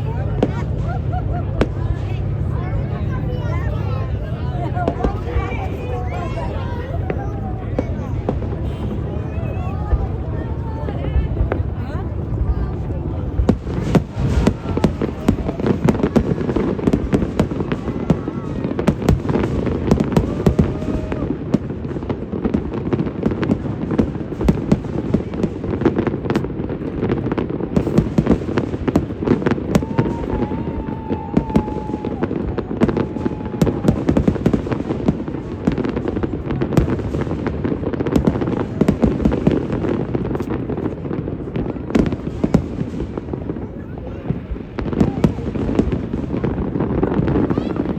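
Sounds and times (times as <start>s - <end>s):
fireworks cracks and bangs: 0.0s - 47.9s.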